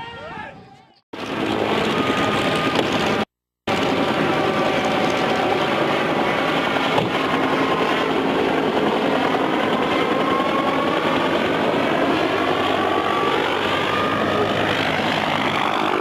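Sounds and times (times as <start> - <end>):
helicopter engine and rotor: 1.2 - 16.0.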